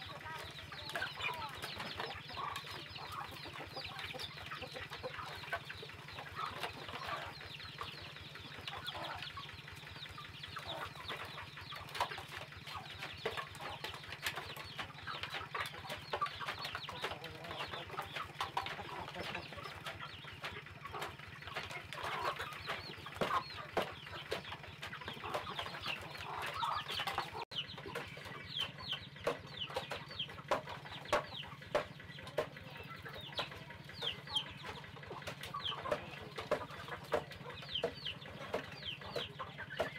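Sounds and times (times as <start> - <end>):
chickens clucking: 0.0 - 39.9
chicks peeping: 0.0 - 39.9.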